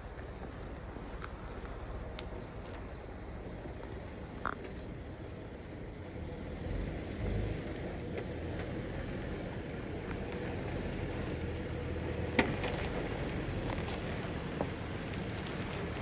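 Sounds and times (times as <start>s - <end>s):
offroad vehicle rumbling: 0.0s - 16.0s.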